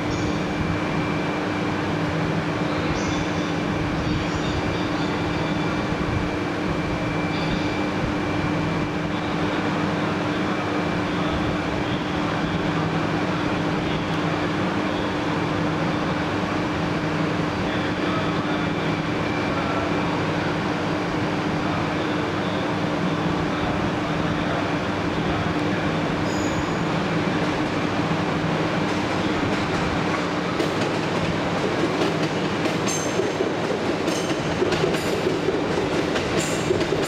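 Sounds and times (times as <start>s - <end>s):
train rumbling into station: 0.0s - 37.0s.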